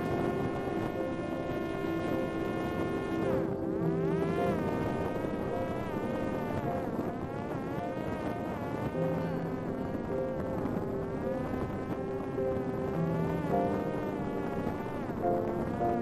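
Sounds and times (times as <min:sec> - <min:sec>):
drone motor whining: 0:00.0 - 0:16.0.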